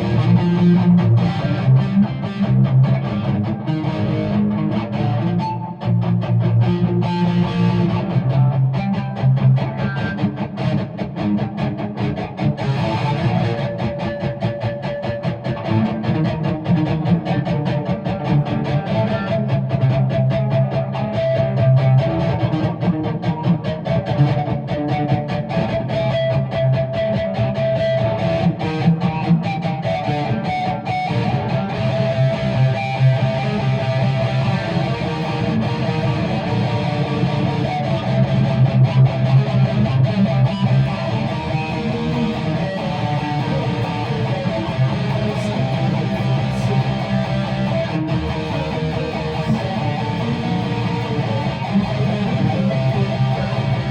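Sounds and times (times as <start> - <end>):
guitar strumming: 0.0 - 53.9.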